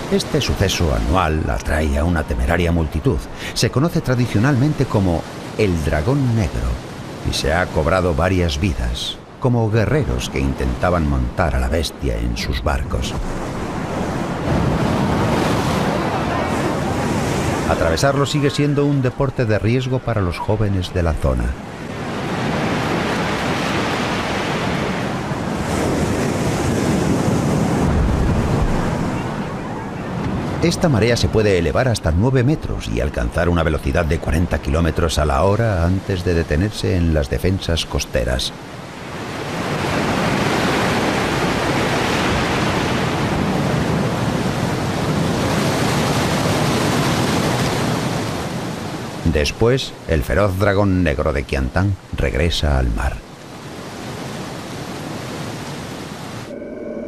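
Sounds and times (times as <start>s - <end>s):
churning water rushing: 0.0s - 56.6s.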